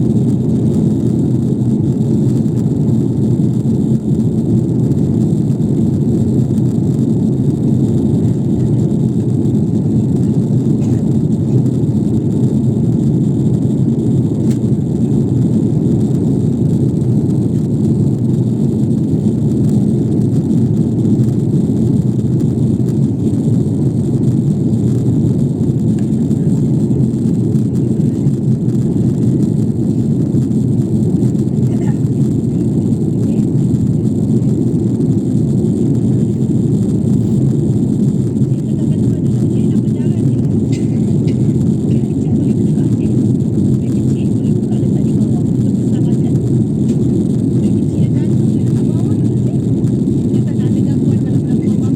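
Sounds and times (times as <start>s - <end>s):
airliner cabin rumble in flight: 0.0s - 51.9s.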